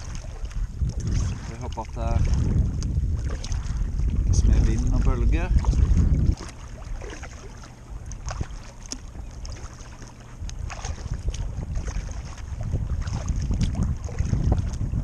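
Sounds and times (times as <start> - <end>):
paddle splashes: 0.0 - 15.0
water lapping and splashing: 0.0 - 15.0
wind rumble on microphone: 0.0 - 15.0.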